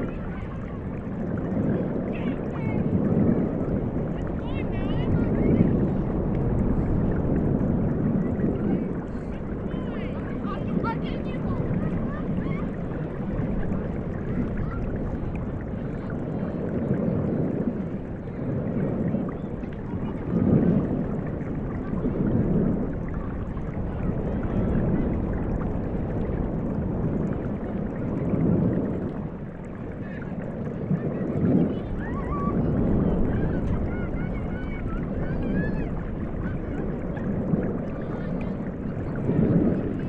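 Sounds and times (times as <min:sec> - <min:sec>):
distant children's voices: 0:00.0 - 0:40.0
ocean waves: 0:00.0 - 0:40.0.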